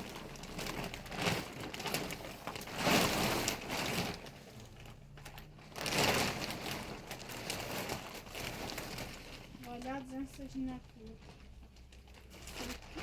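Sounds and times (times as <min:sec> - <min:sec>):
plastic sheeting rustling: 0:00.0 - 0:13.0.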